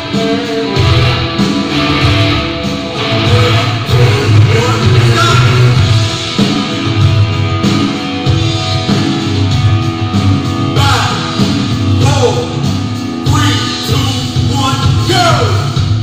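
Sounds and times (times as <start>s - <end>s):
rock music with electric guitar: 0.0s - 16.0s.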